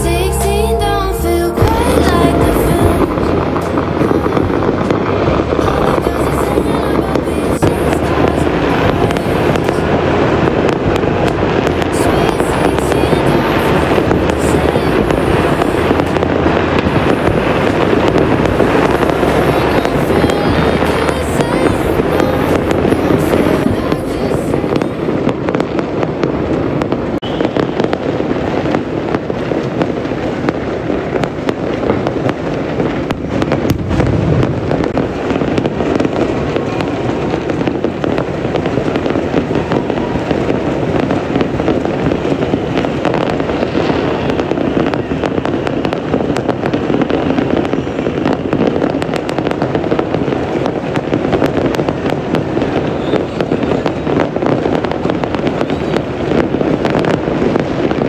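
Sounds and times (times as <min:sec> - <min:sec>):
fireworks crackling: 0:00.0 - 0:58.0
heavy firework boom: 0:00.0 - 0:58.0.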